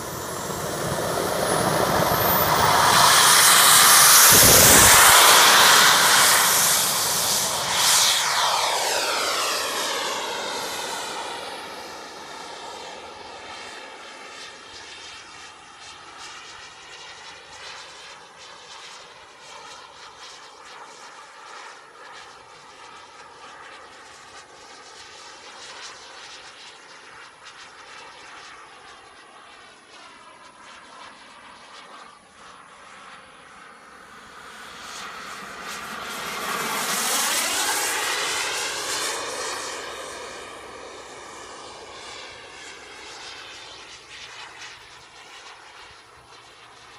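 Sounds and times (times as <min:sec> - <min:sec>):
model jet turbine roaring: 0:00.0 - 0:46.9.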